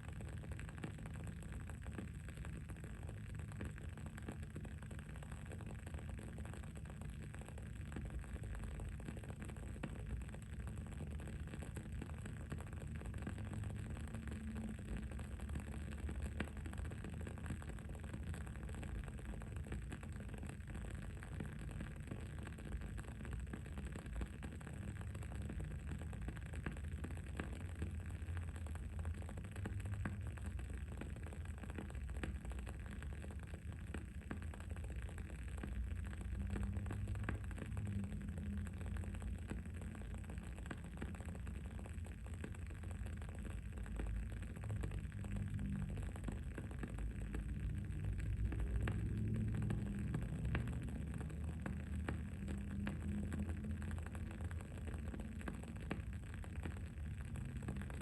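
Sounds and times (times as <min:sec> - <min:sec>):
candle crackling and popping: 0:00.0 - 0:58.0
low background rumble: 0:00.0 - 0:58.0.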